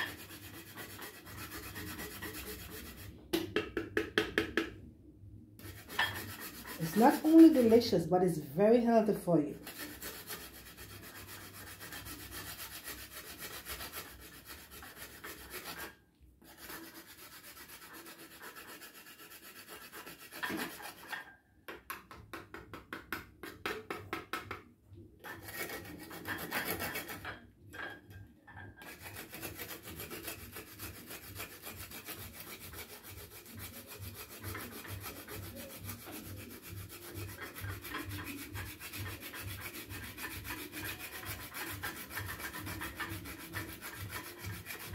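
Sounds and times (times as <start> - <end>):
chocolate grated on a grater: 0.0 - 3.2, 5.6 - 8.1, 8.8 - 24.2, 25.2 - 44.9.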